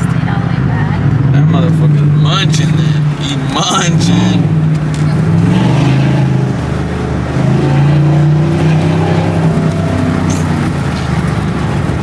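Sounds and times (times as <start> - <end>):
car engine accelerating: 0.0 - 12.0
road noise: 0.0 - 12.0.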